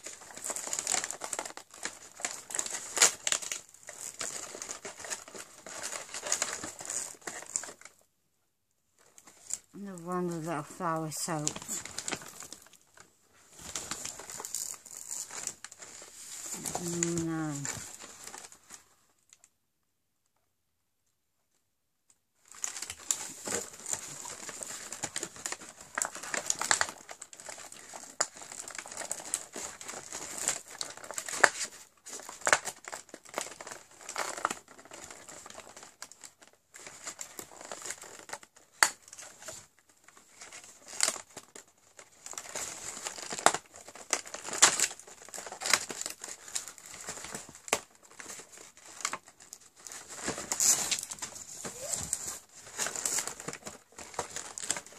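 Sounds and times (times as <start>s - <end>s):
packaging tearing: 0.0s - 8.0s, 10.9s - 18.8s, 22.4s - 54.9s
cardboard and plastic crinkling: 0.0s - 8.1s, 9.0s - 19.5s, 22.4s - 54.9s.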